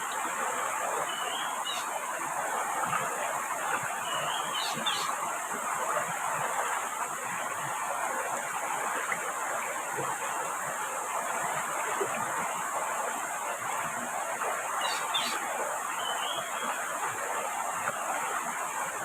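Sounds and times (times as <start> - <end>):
river water: 0.0 - 19.0.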